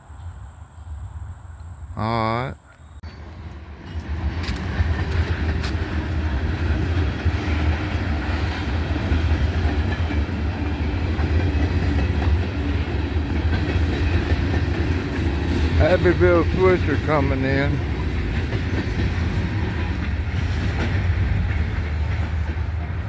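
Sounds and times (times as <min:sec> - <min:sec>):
locomotive engine rumble: 0:03.1 - 0:23.0.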